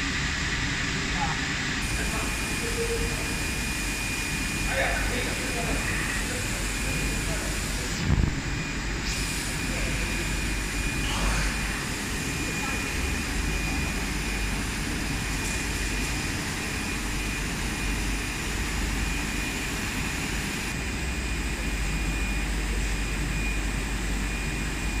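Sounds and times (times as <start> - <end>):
machinery drone with low rumble: 0.0 - 25.0
faint high whine: 1.8 - 25.0.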